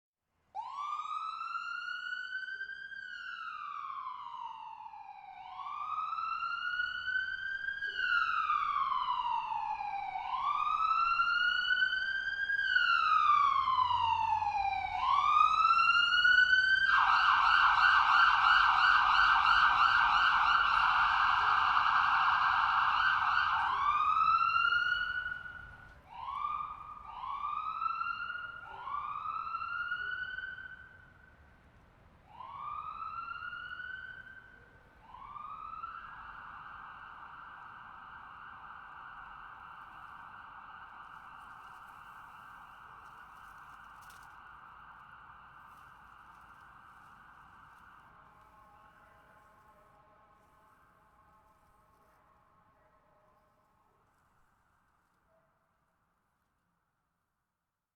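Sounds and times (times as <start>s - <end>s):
ambulance siren: 0.6s - 55.1s.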